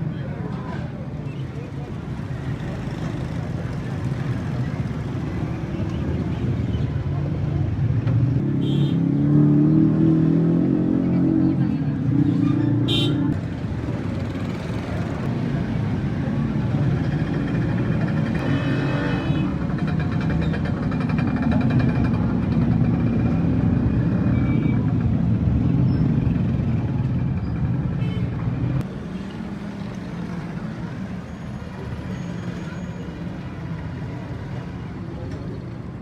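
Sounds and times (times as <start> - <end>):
traffic engine rumble: 0.0 - 36.0.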